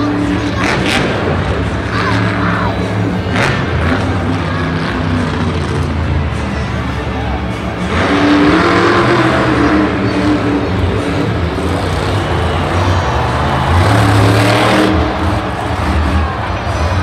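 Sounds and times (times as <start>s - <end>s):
truck engine revving hard: 0.0s - 6.4s, 7.7s - 17.0s.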